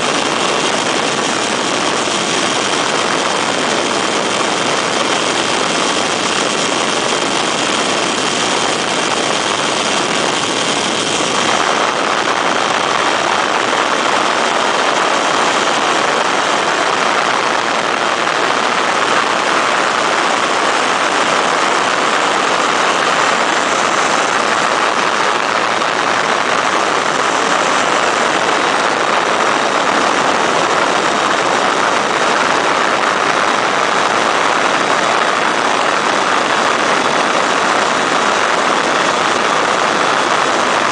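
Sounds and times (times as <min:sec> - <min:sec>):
heavy rushing noise: 0:00.0 - 0:40.9
light aircraft engine and propeller: 0:00.0 - 0:40.9.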